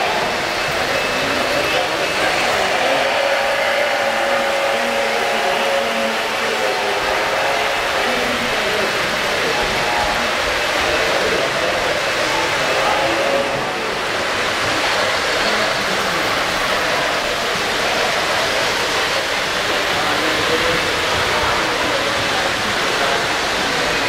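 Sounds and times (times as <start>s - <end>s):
model trains running on track: 0.0s - 24.0s
overlapping voices in crowded hall: 0.0s - 24.0s.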